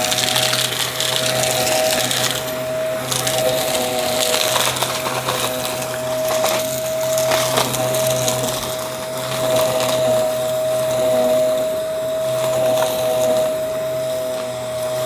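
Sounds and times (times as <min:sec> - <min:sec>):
debris crackling in vacuum: 0:00.0 - 0:15.0
vacuum cleaner motor whine: 0:00.0 - 0:15.0.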